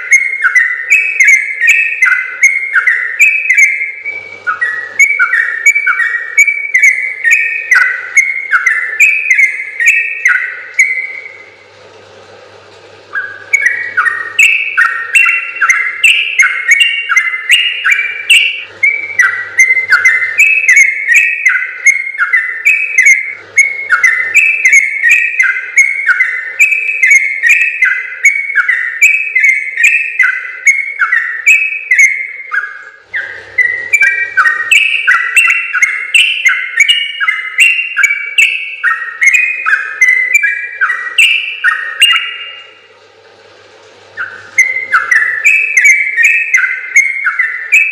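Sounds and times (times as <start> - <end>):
bird singing bubbly whistles: 0.0 - 11.6, 13.1 - 42.9, 44.1 - 47.9.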